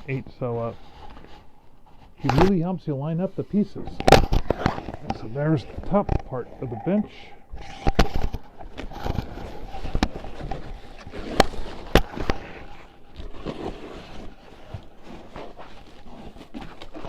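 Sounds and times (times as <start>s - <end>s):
scraping and rustling: 3.2s - 17.0s.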